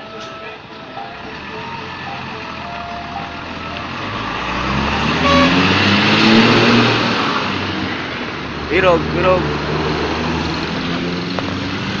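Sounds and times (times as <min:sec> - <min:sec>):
heavy vehicle passing: 0:00.8 - 0:12.0.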